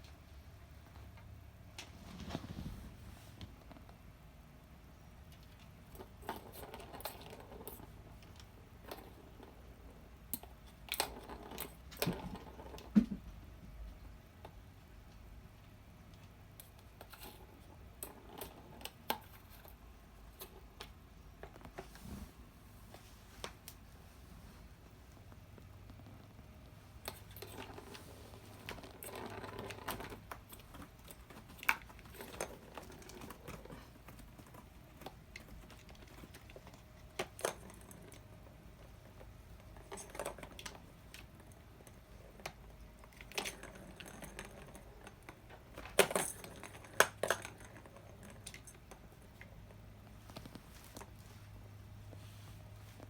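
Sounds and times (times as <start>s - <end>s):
kittens playing with toys: 5.0s - 53.0s.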